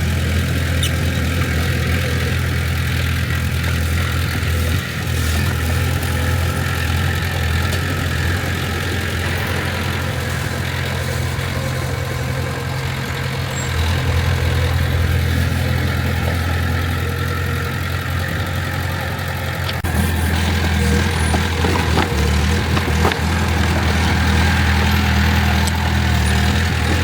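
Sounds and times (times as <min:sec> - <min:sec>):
heavy diesel engine humming: 0:00.0 - 0:27.0.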